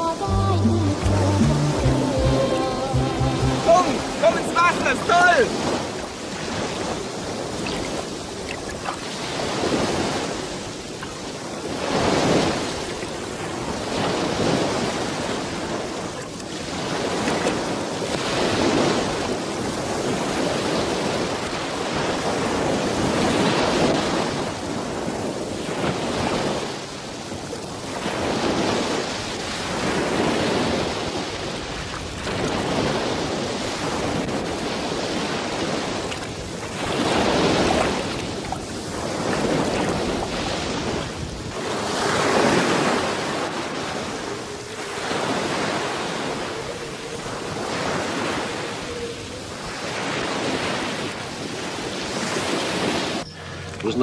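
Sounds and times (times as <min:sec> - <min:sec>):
small waves breaking: 0:00.0 - 0:54.0.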